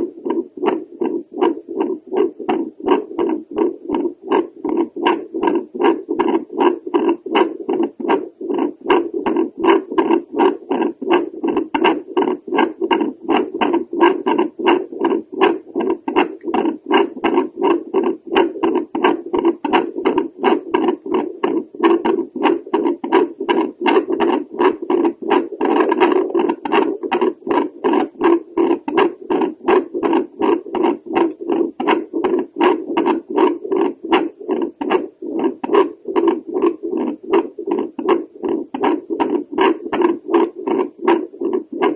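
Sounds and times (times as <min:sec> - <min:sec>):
whooshing heartbeat pulses: 0:00.0 - 0:41.9.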